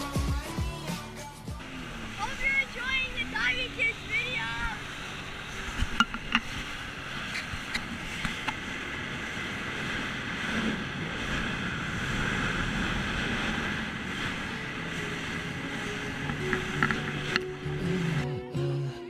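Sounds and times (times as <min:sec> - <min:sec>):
jet ski engine: 0:00.0 - 0:19.0
water spray rushing: 0:01.0 - 0:18.2
wind on microphone: 0:01.7 - 0:18.2.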